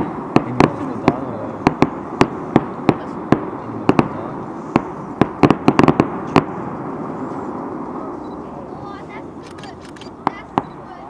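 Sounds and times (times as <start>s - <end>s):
fireworks bursting with bangs: 0.0s - 11.0s
steady background noise: 0.0s - 11.0s.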